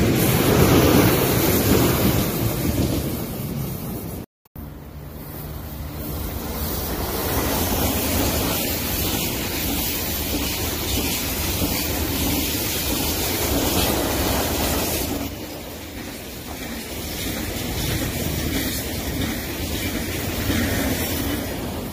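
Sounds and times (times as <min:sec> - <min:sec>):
electric train passing: 0:00.0 - 0:21.9.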